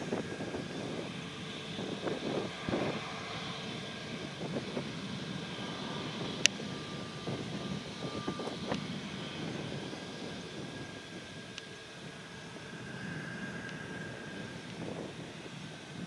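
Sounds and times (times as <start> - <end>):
distant jet engine rush: 0.0 - 16.0.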